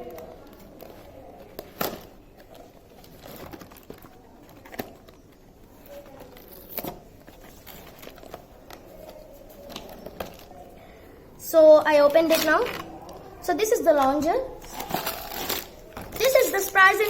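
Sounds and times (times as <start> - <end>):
cardboard and plastic packaging handled: 0.0 - 10.8, 11.9 - 17.0.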